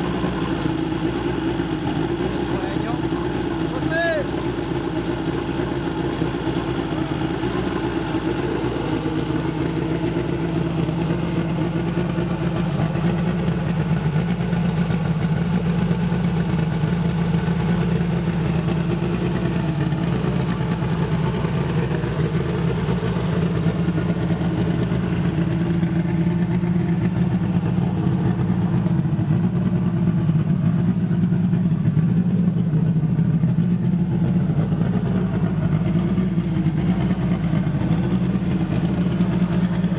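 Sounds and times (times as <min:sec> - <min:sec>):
turbocharged car engine idling: 0:00.0 - 0:39.9.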